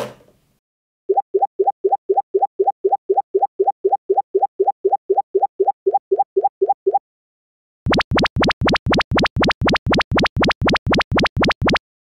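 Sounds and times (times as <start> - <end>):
rising plop blips: 1.1 - 7.0, 7.9 - 11.8.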